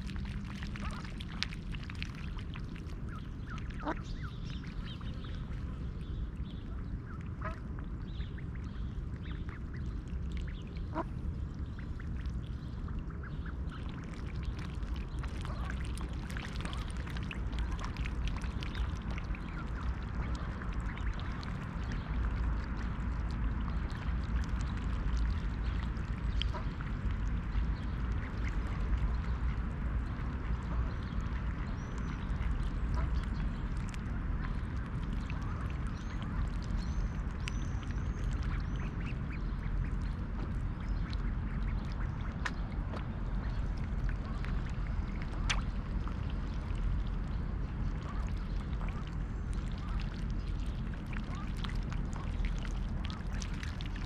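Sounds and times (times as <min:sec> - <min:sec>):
low rumble: 0:00.0 - 0:54.0.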